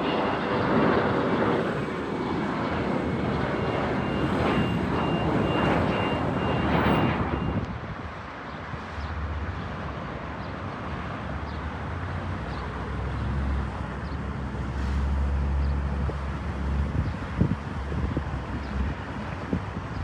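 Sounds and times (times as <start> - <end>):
low rumble of engines: 0.0 - 20.0.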